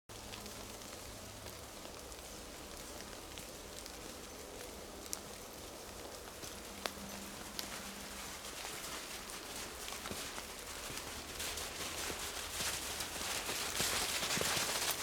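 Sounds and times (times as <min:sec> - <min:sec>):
small ticks and drips: 0:00.1 - 0:15.0.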